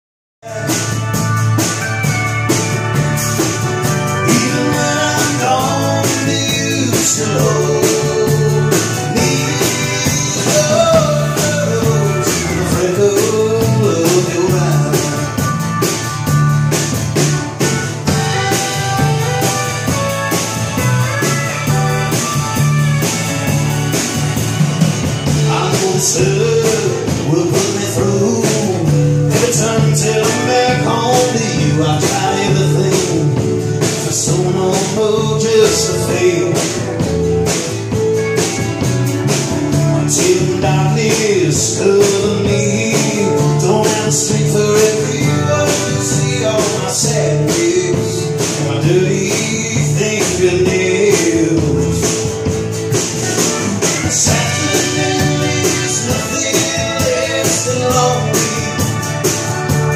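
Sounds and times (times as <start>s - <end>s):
live country-rock band: 0.4s - 59.9s.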